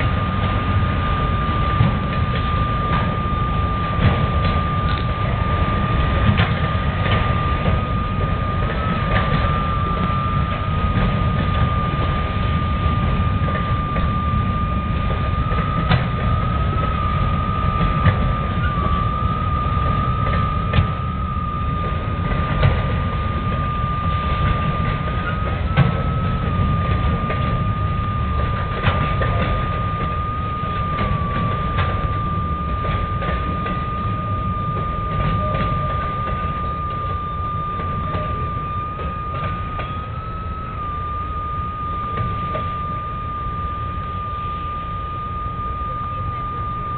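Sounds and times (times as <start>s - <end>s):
freight train rumble: 0.0s - 46.9s
high steady squeal: 0.0s - 46.9s.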